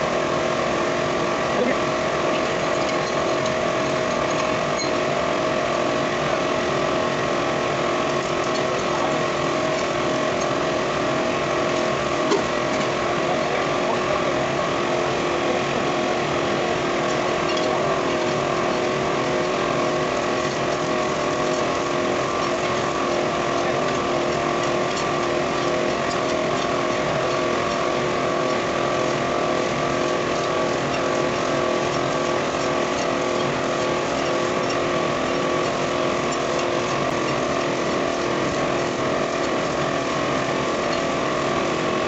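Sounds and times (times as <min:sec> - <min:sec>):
machine humming steadily: 0:00.0 - 0:42.0.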